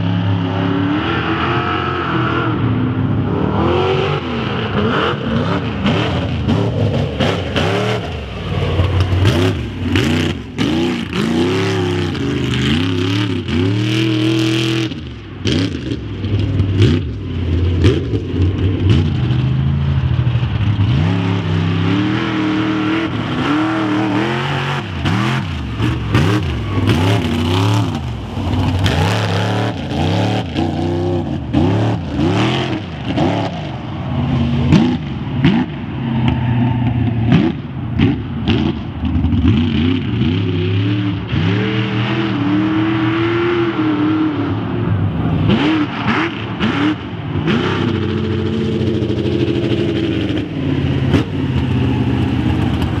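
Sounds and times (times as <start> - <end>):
truck engine revving: 0.0 - 53.0.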